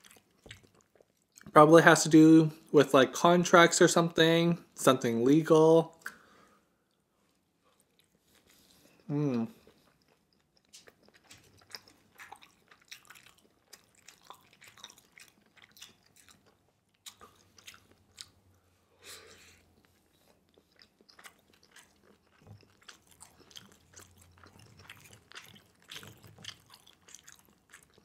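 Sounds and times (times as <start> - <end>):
close-up chewing: 0.0 - 1.6, 6.9 - 28.0.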